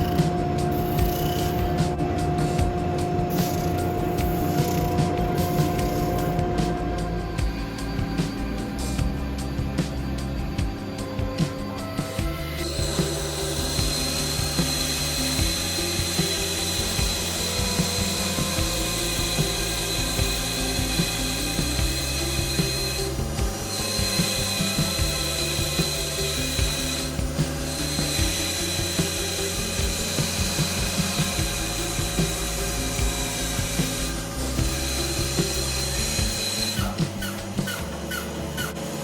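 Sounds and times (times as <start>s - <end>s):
background music: 0.0s - 39.0s
power tool whining: 0.0s - 39.0s.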